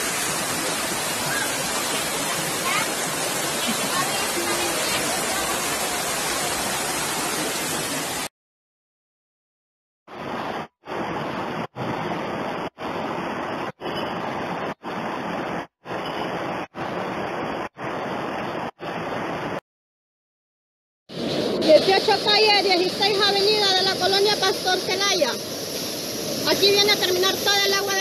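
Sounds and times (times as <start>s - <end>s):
floodwater rushing: 0.0s - 8.3s, 10.1s - 19.5s, 21.2s - 28.0s.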